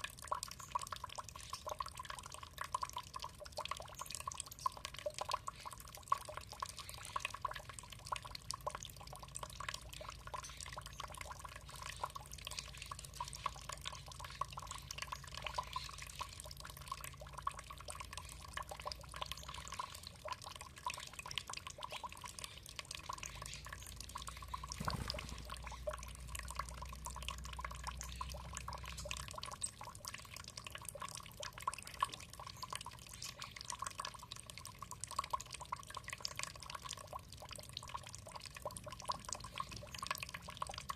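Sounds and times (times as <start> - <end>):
water trickling and dripping: 0.0 - 40.9.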